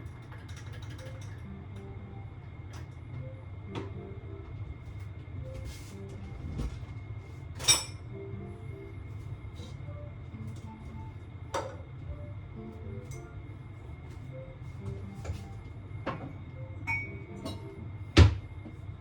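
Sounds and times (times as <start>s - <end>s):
soft background music: 0.0s - 19.0s
steady low hum: 0.0s - 19.0s.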